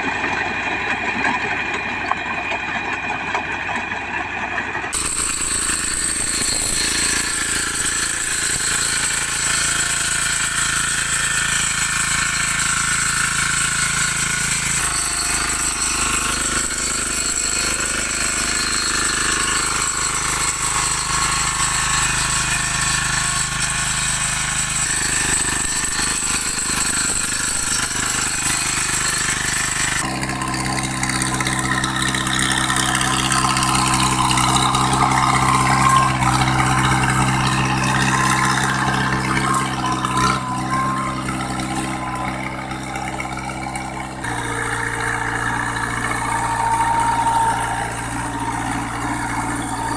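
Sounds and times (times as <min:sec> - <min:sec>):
diesel tiller engines running: 0:00.0 - 0:49.9.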